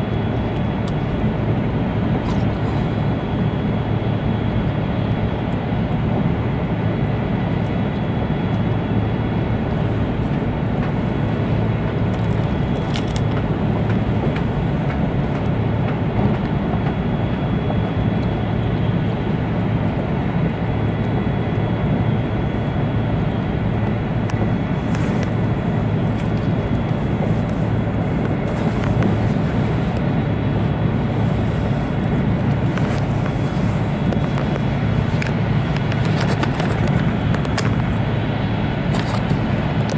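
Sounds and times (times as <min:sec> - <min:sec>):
train running noise: 0:00.0 - 0:39.9.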